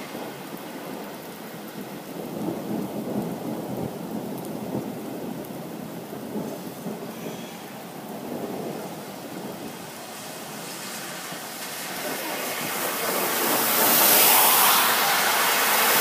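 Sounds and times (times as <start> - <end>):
rain falling: 0.0 - 16.0
rolling thunder rumble: 0.0 - 16.0.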